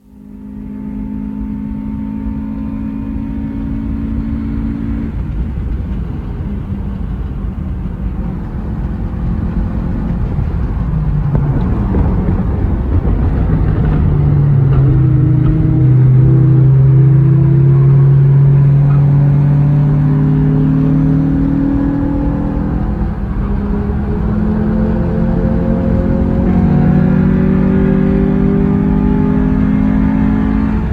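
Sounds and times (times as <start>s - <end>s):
car engine revving: 0.0s - 30.9s
road and tyre noise: 0.0s - 30.9s.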